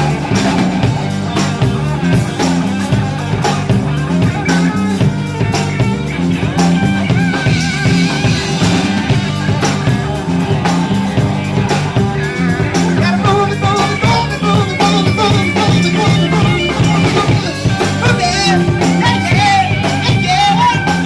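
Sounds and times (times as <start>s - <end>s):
bass line: 0.0s - 21.0s
drum kit beat: 0.0s - 21.0s
electric guitar: 0.0s - 21.0s.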